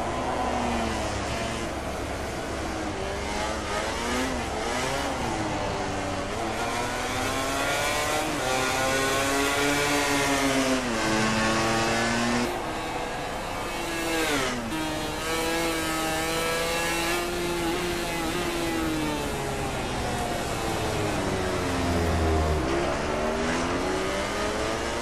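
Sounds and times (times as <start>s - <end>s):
racing motorcycle engine revving: 0.0s - 25.0s.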